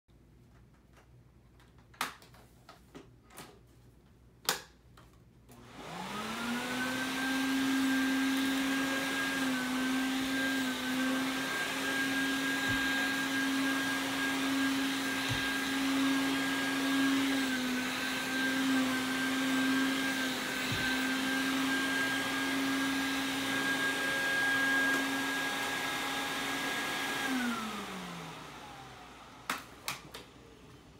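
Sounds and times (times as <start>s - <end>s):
vacuum cleaner motor whining: 5.5s - 30.9s.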